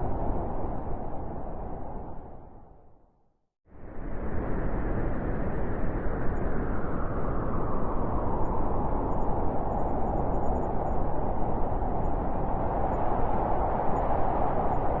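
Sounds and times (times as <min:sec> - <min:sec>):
blizzard wind blowing hard: 0:00.0 - 0:02.9, 0:03.7 - 0:15.0.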